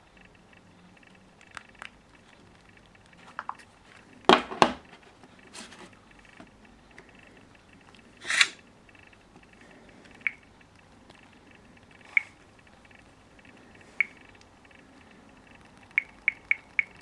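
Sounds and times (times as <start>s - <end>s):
sharp clicks and knocks: 0.2s - 17.0s.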